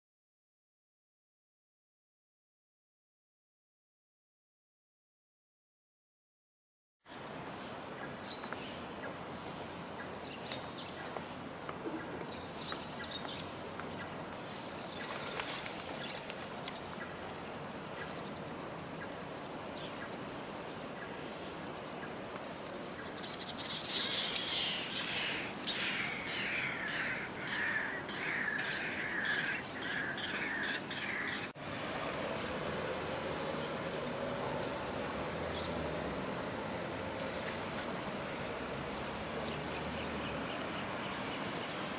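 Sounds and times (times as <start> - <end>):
outdoor background noise: 7.0 - 41.9.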